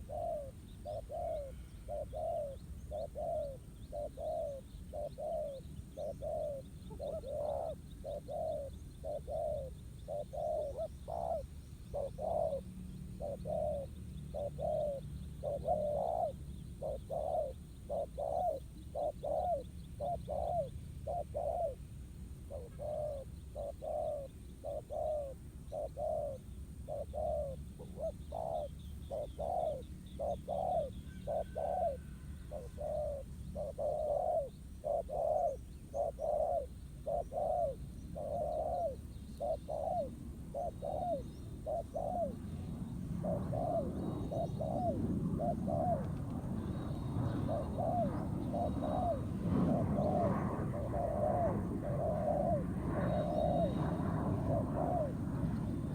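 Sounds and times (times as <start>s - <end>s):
doves cooing: 0.0s - 21.8s, 22.5s - 55.9s
small birds chirping: 0.0s - 21.8s, 22.5s - 55.9s.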